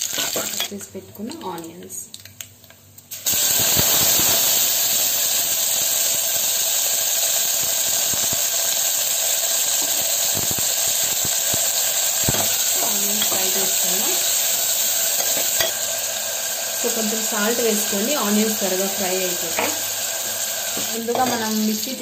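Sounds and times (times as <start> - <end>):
onions sizzling in hot oil: 0.0 - 0.7, 3.1 - 22.0.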